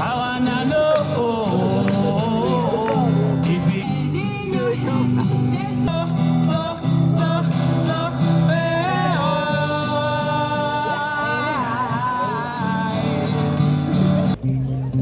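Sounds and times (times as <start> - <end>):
person singing: 0.0 - 14.2
guitar: 0.0 - 15.0.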